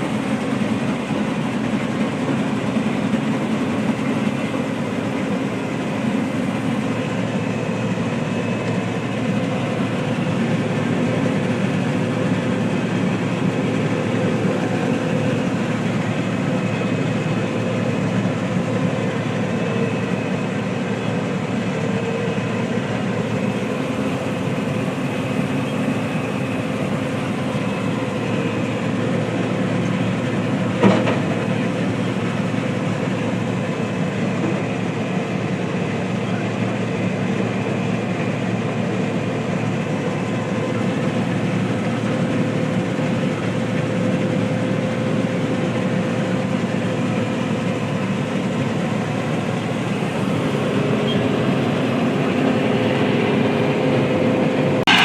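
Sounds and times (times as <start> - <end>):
harvest machinery drone and clatter: 0.0 - 55.0.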